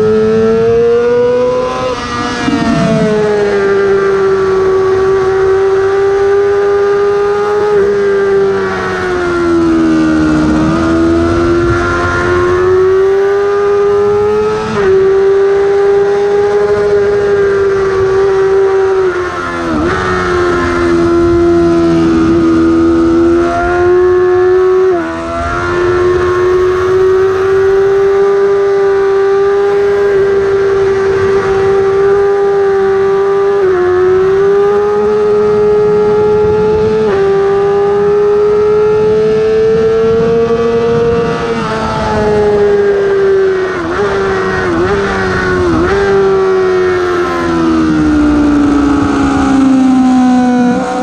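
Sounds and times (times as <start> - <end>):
motorcycle engine screaming: 0.0 - 51.0.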